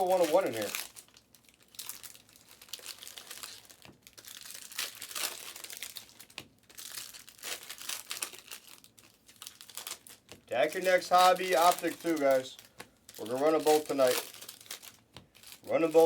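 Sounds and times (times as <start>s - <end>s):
plastic wrapping crinkling and tearing: 0.0s - 16.0s.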